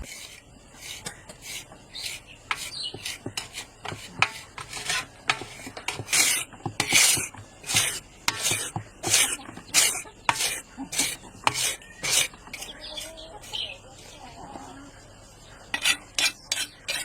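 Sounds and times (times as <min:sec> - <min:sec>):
rasping scraping strokes: 0:00.0 - 0:14.7, 0:15.7 - 0:17.0.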